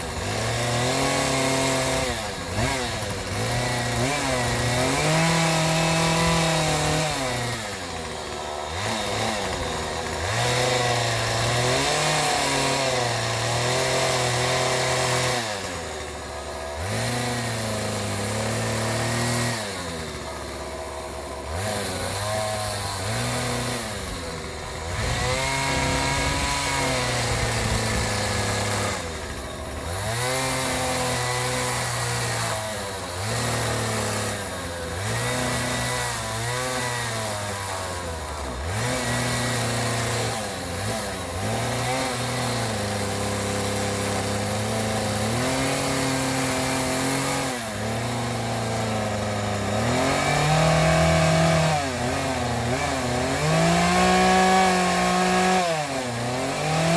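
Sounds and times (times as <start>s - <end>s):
small engine revving: 0.0s - 56.9s.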